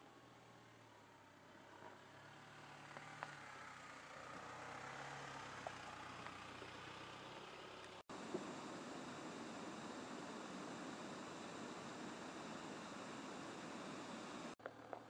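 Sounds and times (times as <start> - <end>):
diesel engine running at low revs: 2.2 - 14.6.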